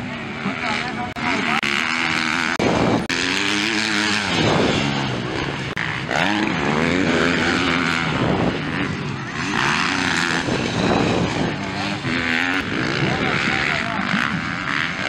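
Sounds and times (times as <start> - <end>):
motorbike engines revving: 0.0 - 15.0.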